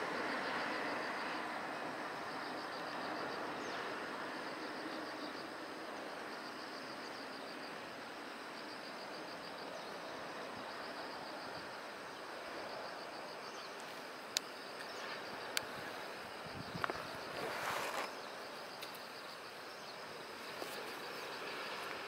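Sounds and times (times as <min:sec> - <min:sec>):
insects chirping: 0:00.0 - 0:22.0
outdoor background hum: 0:00.0 - 0:22.0.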